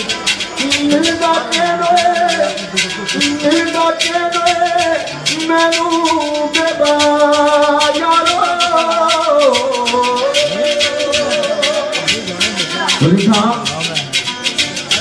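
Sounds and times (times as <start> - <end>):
jingling percussion beat: 0.0 - 15.0
melodic line of held notes: 0.0 - 15.0.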